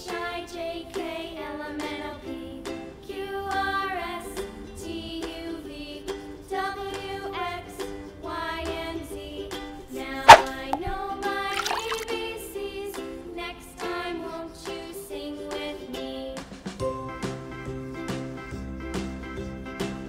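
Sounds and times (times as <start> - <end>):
plucked-string children's music: 0.0 - 20.0.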